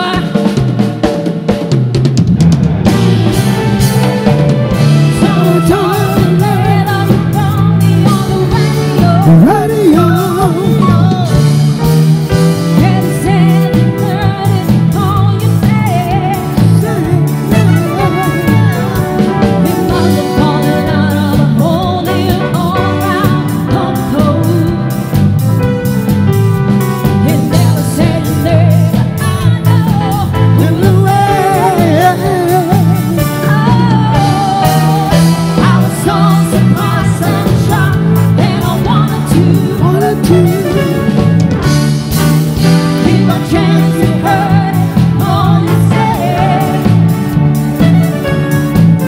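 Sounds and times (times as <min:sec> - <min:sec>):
woman singing: 0:00.0 - 0:00.6, 0:04.8 - 0:11.8, 0:12.5 - 0:25.2, 0:27.1 - 0:41.5, 0:42.6 - 0:47.3
bass line: 0:00.0 - 0:49.0
drum kit beat: 0:00.0 - 0:49.0.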